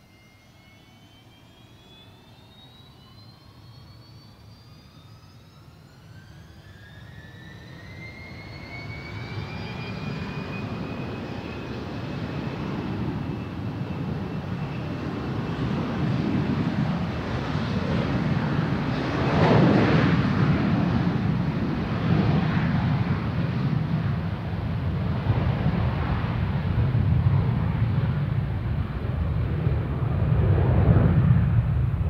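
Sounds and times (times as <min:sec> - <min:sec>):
jet engines spooling up: 0:00.0 - 0:32.0.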